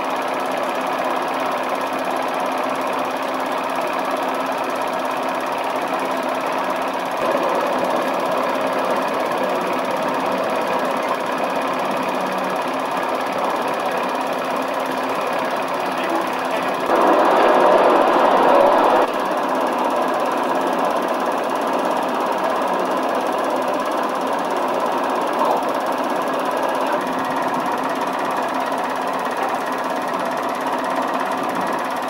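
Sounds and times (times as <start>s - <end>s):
film projector clattering: 0.0s - 32.0s.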